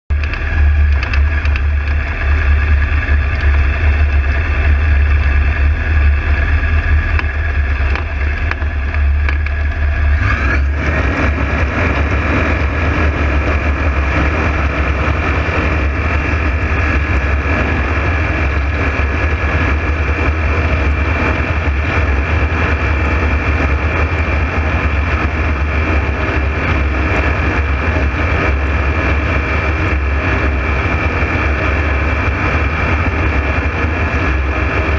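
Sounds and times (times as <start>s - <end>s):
hang glider engine running: 0.1s - 34.9s.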